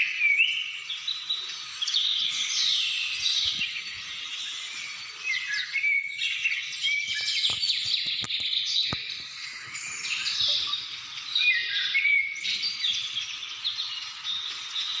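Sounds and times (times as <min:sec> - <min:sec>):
small birds chirping and singing: 0:00.0 - 0:15.0.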